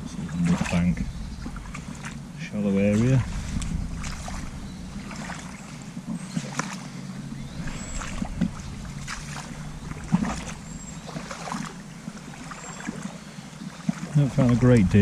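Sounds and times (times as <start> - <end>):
legs wading through river water: 0.0 - 15.0.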